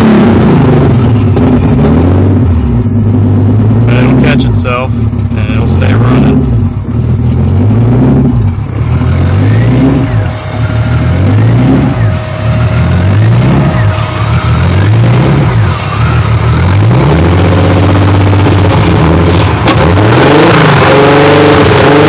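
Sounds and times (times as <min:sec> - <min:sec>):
engine idling with hunting revs: 0:00.0 - 0:22.0.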